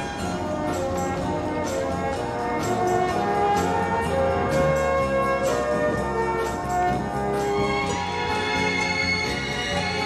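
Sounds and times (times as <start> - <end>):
instrumental music: 0.0 - 10.0.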